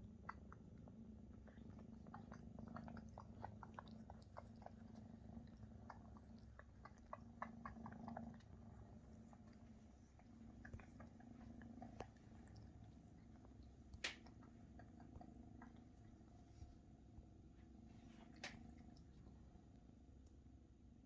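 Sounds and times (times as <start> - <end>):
kittens purring: 0.0 - 21.0.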